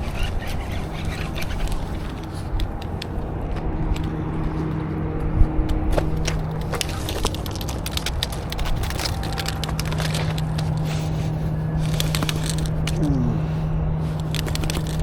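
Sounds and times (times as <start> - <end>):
small clicks and crackles: 0.0 - 4.9, 5.9 - 13.1, 14.0 - 15.0
low hum: 0.0 - 15.0
rumbling background: 0.0 - 15.0.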